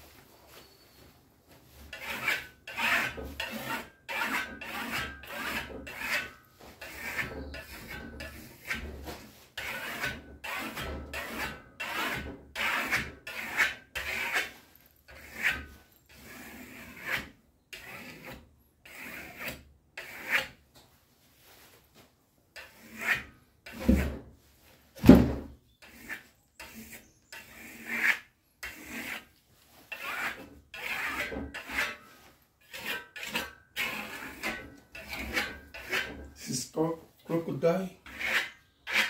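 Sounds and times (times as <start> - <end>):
steel trowel scraping plaster: 1.7 - 20.6, 22.6 - 24.2, 25.6 - 39.0.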